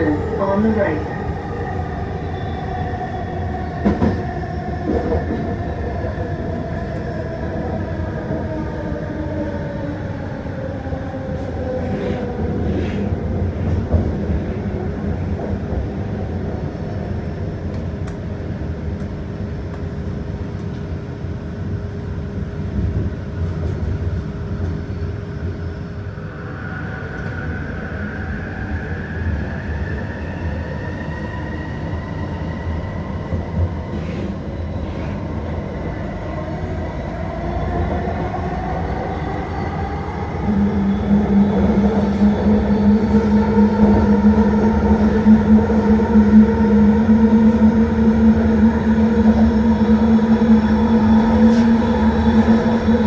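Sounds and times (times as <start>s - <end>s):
train rumble: 0.0s - 53.0s.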